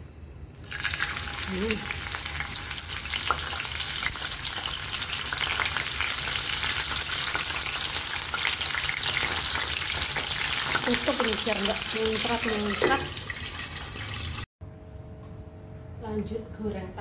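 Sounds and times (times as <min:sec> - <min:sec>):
fish frying in hot oil: 0:00.6 - 0:14.5.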